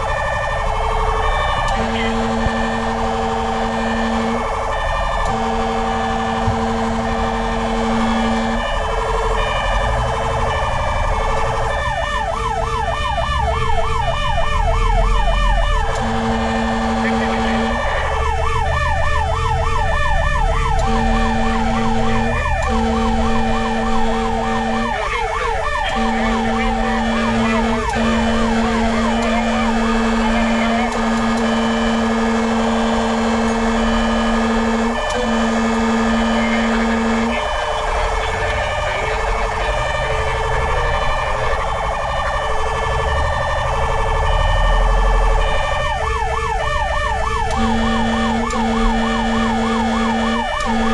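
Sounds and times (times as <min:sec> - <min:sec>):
deep horn tones: 0:00.0 - 0:12.0, 0:13.1 - 0:25.1, 0:25.8 - 0:50.9
fast yelp siren: 0:00.0 - 0:50.9.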